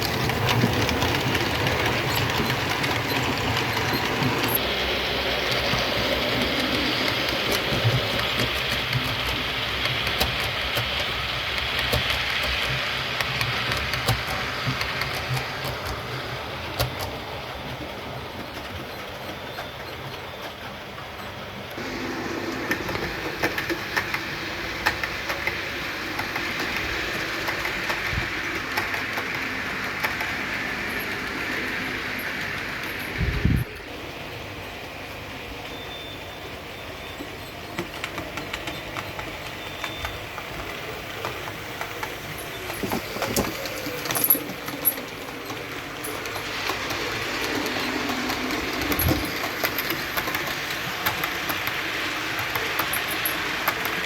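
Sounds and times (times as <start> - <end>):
model train running: 0.0 - 54.0
wheels clicking over rail joints: 0.0 - 54.0.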